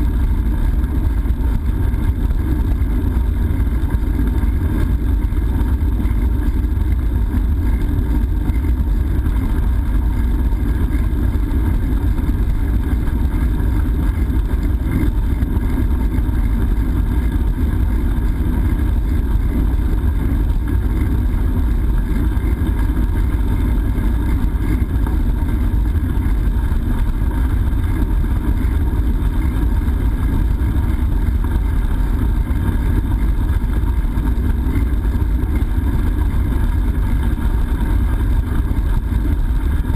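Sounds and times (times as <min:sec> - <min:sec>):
tyre and road vibration: 0:00.0 - 0:39.9.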